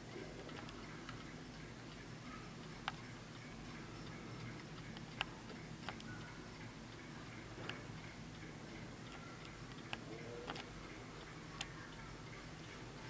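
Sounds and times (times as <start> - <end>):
clock ticking: 0.0 - 13.0
low background hum: 0.0 - 13.0.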